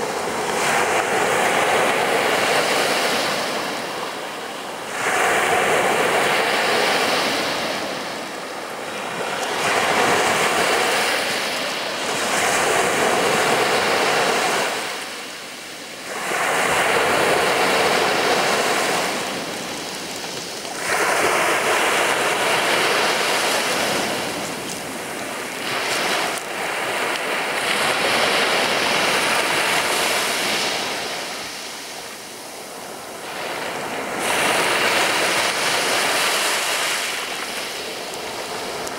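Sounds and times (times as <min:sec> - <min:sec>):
sea waves breaking on beach: 0:00.0 - 0:38.9.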